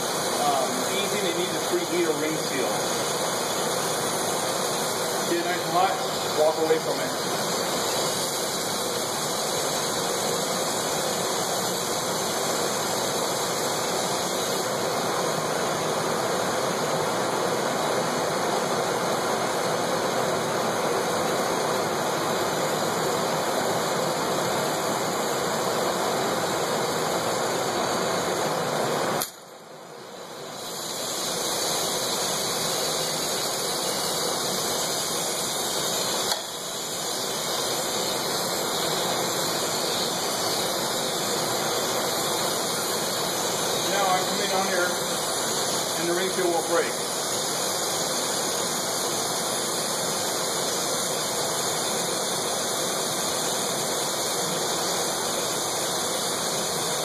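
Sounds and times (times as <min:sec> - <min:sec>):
hand torch hissing rush: 0:00.0 - 0:57.0.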